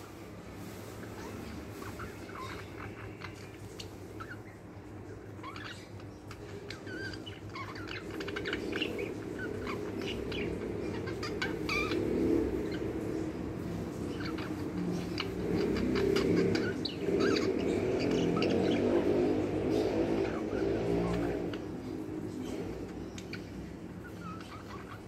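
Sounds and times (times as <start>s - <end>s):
budgerigars chattering and chirping: 0.0s - 25.0s.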